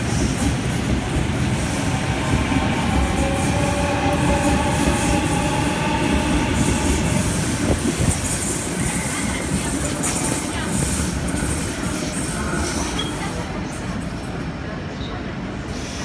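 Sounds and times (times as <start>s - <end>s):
train whine: 0.0s - 13.6s
train wheels rumbling on track: 0.0s - 16.0s.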